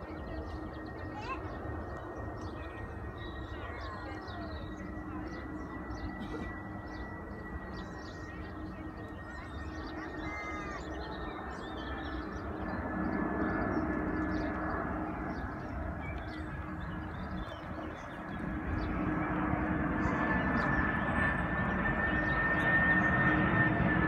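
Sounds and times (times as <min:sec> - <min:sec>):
small birds calling: 0:00.0 - 0:23.7
jet engines whining overhead: 0:00.0 - 0:24.0.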